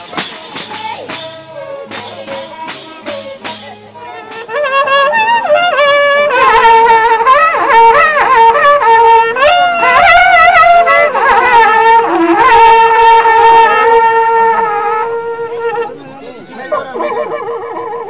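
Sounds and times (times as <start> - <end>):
horn trumpet sliding between notes: 0.0 - 16.0
horn trumpet holding low note: 0.2 - 16.1.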